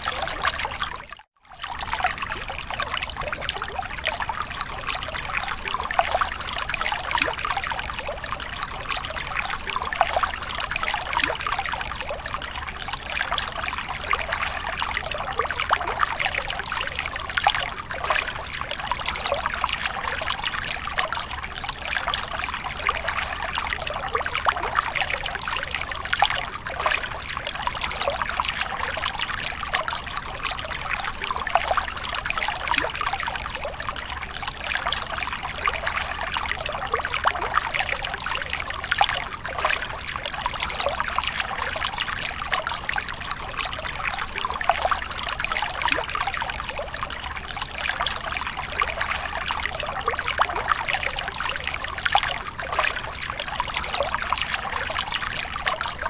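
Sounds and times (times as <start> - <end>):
stream trickling over rocks: 0.0 - 56.0.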